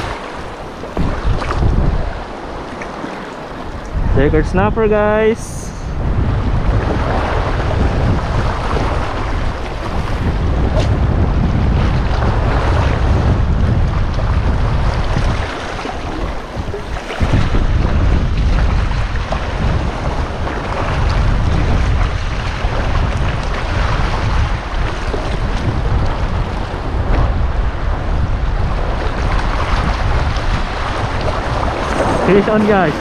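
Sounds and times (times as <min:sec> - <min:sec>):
waves washing on shore: 0:00.0 - 0:33.0
wind buffeting microphone: 0:00.0 - 0:33.0.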